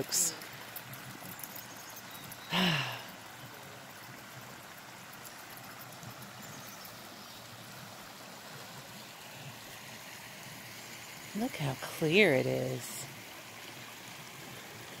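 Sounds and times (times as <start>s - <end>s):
creek running over rocks: 0.0s - 15.0s.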